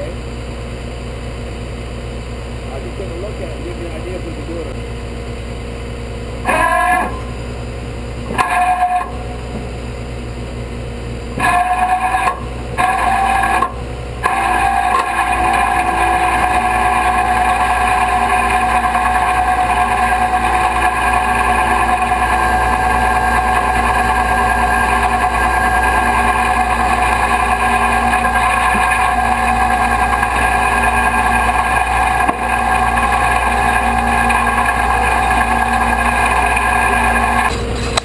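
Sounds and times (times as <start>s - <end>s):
steady whine: 0.0s - 38.0s
winch mechanical drone: 6.2s - 38.0s.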